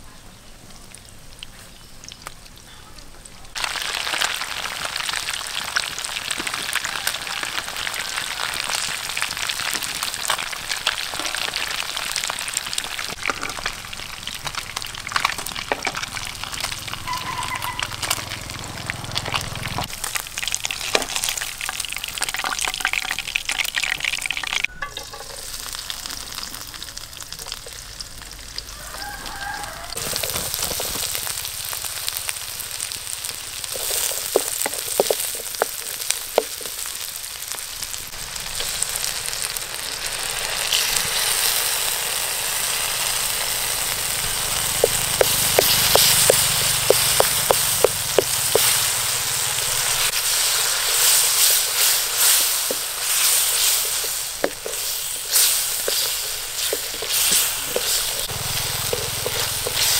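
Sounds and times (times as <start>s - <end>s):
fish deep-frying in oil: 0.0s - 59.9s.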